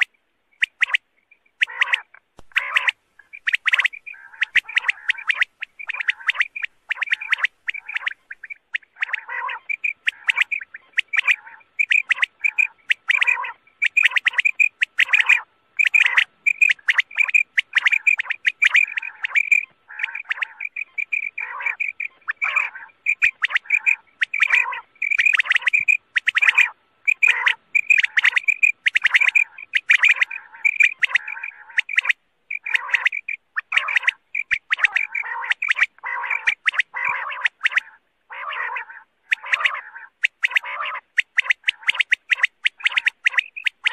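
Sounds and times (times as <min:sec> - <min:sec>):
quail calling: 0:00.0 - 0:43.9.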